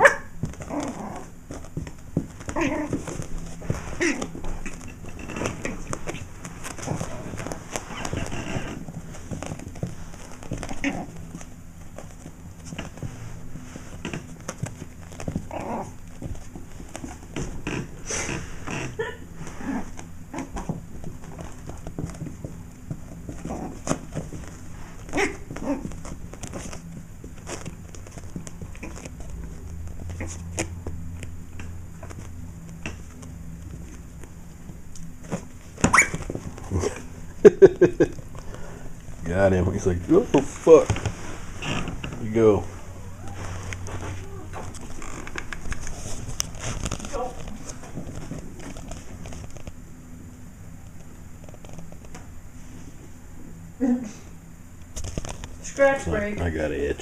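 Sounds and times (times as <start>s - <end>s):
animals scuffling on carpet: 0.0s - 53.6s
low steady hum: 0.0s - 57.0s.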